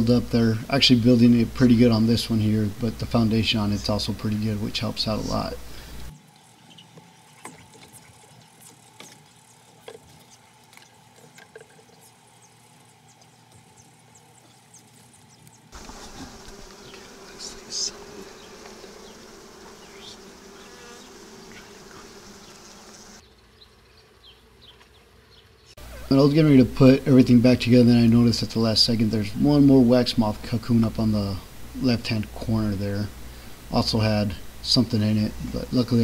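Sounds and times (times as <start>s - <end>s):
honeybees humming: 0.0s - 36.0s.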